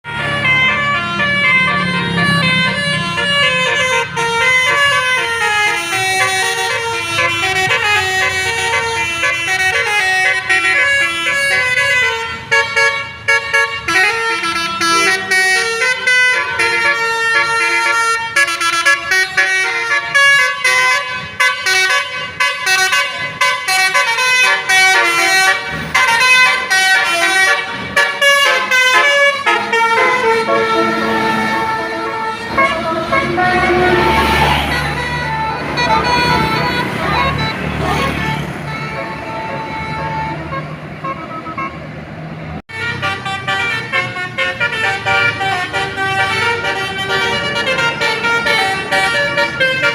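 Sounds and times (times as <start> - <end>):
bus musical air horn playing a tune: 0.0 - 42.0, 42.6 - 49.9.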